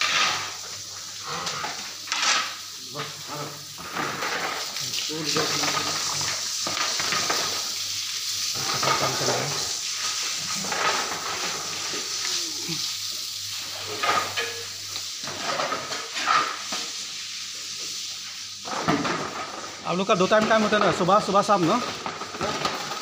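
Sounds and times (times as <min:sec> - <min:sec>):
hose spraying water on concrete: 0:00.0 - 0:23.0.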